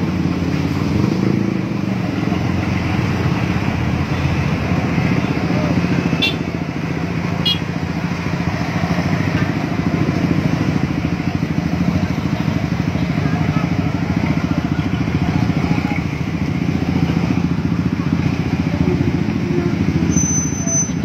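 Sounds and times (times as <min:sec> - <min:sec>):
motorcycle engines idling: 0:00.0 - 0:21.0.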